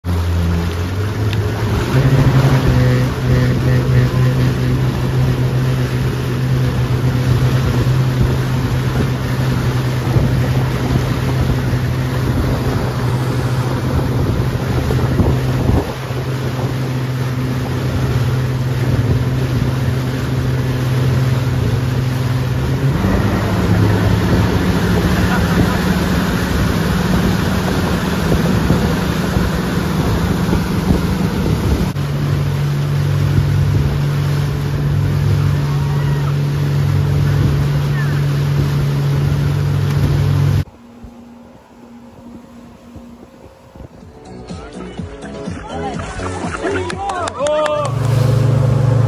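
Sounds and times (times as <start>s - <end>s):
churning boat wake: 0.0s - 49.0s
motorboat engine running: 0.0s - 49.0s.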